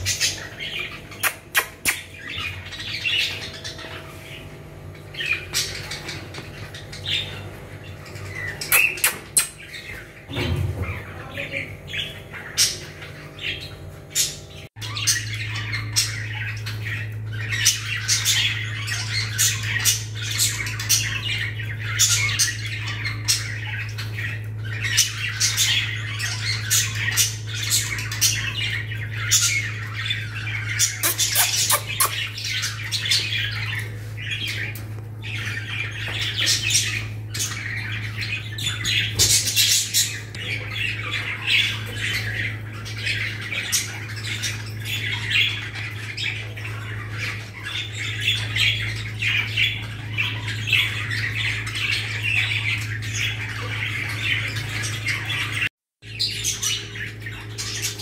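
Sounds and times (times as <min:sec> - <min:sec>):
parrots squawking and chattering: 0:00.0 - 0:58.0
steady low hum: 0:00.0 - 0:58.0.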